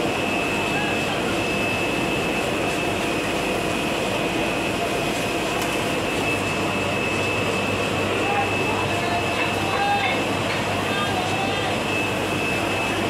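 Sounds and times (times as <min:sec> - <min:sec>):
bubbling water in fish tanks: 0:00.0 - 0:13.0
thin high whine: 0:00.0 - 0:13.0.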